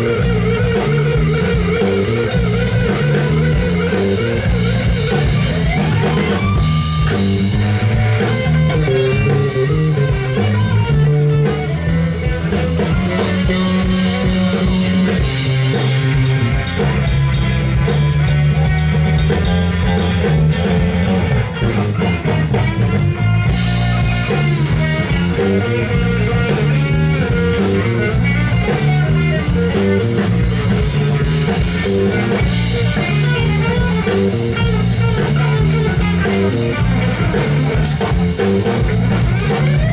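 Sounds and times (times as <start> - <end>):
drum kit: 0.0 - 39.9
electric bass: 0.0 - 39.9
electric guitar melody: 0.0 - 39.9.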